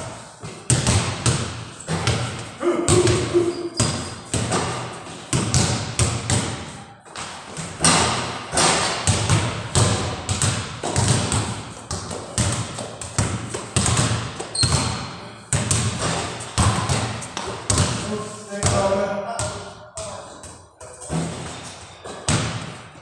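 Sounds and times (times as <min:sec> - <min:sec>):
basketballs bouncing on hard floor: 0:00.1 - 0:23.0.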